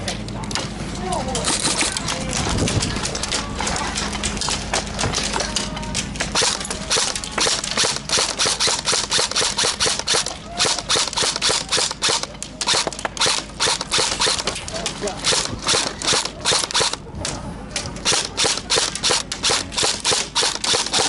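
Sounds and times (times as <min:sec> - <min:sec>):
airsoft guns firing in bursts: 0:03.1 - 0:17.0, 0:18.0 - 0:21.0.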